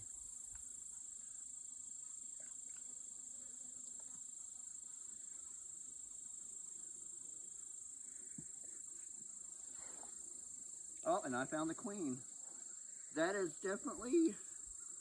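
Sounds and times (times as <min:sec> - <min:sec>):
faint low hum of honeybees: 0:00.0 - 0:15.0.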